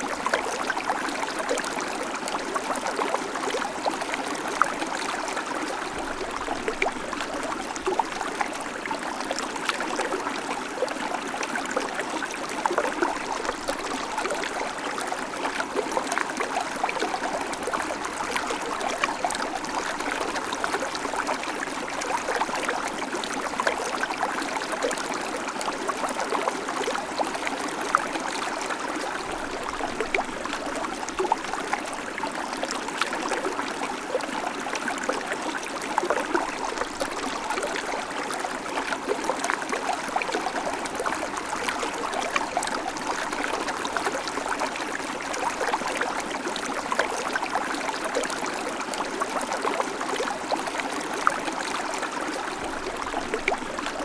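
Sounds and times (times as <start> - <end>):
creek babbling over stones: 0.0 - 54.0.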